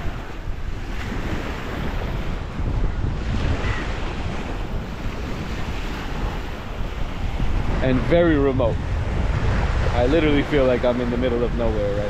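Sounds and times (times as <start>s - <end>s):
small waves breaking on shore: 0.0s - 12.0s
wind buffeting microphone: 0.0s - 12.0s.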